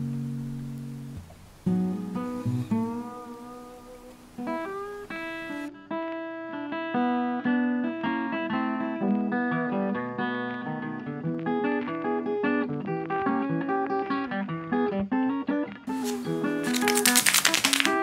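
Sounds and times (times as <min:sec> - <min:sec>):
acoustic guitar plucking melody: 0:00.0 - 0:18.0.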